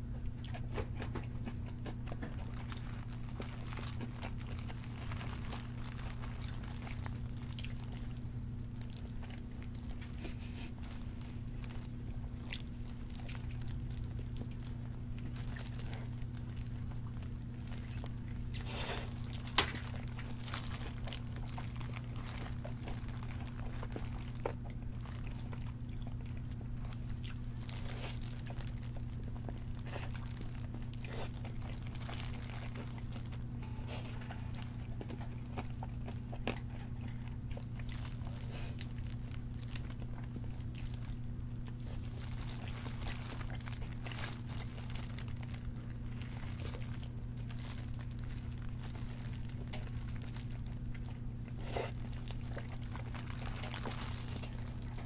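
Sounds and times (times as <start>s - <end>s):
crunching fried chicken: 0.0s - 55.0s.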